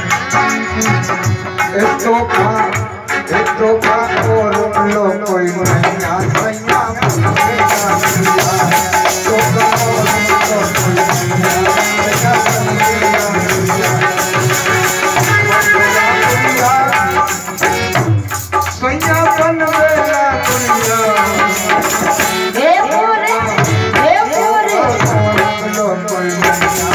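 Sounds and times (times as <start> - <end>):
harmonium playing folk tune: 0.0 - 26.9
man singing into microphone: 0.0 - 26.9
rhythmic percussion: 0.0 - 26.9.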